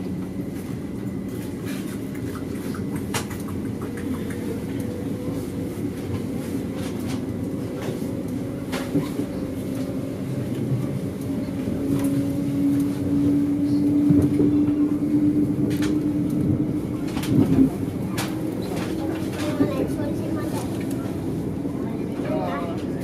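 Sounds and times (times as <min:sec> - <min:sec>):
train cabin rumble: 0:00.0 - 0:23.0.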